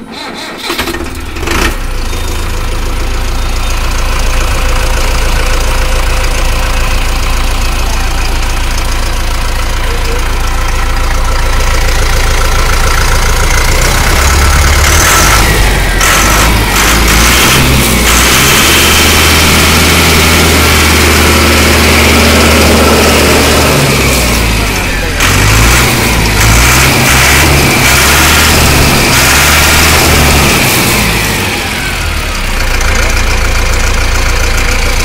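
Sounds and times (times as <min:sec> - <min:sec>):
tractor diesel engine idling: 0:00.0 - 0:35.0.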